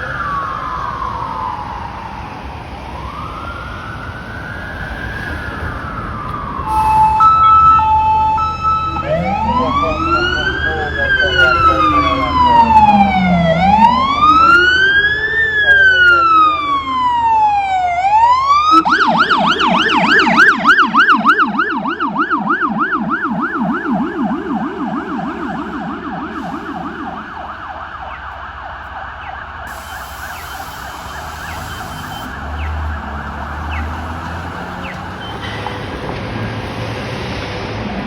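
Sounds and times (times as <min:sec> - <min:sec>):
police siren wailing and yelping: 0:00.0 - 0:35.5
low rumbler siren: 0:00.0 - 0:38.0.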